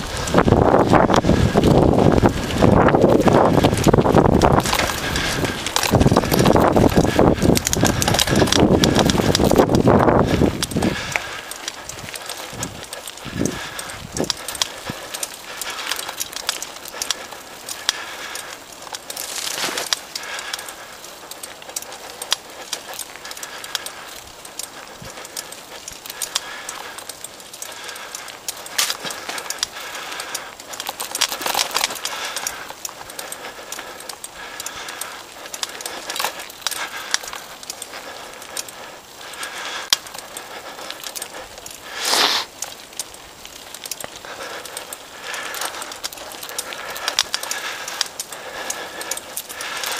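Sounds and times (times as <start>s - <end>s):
bike rattling and clicking: 0.0s - 49.9s
tyres crunching over gravel: 0.0s - 49.9s.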